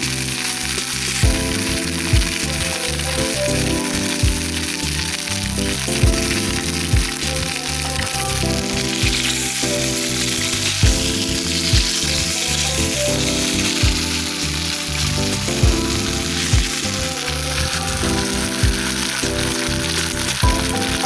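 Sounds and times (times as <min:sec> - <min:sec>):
background music with soft beats: 0:00.0 - 0:21.0
meat sizzling over campfire: 0:00.0 - 0:21.0.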